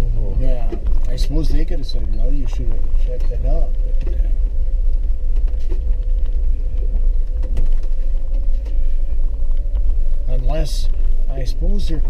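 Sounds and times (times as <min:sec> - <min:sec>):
engine and tyres rumbling: 0:00.0 - 0:12.0
steady hum: 0:00.0 - 0:12.0.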